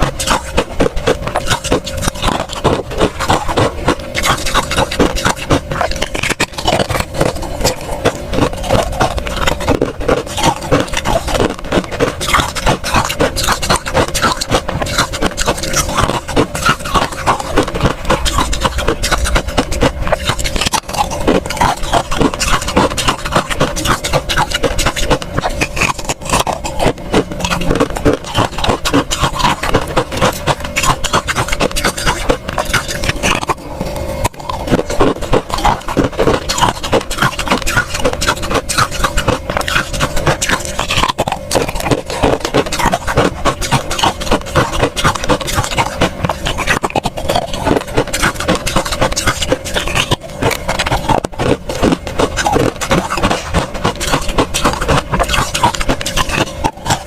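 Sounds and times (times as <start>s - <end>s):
frost being chewed: 0.0s - 57.0s.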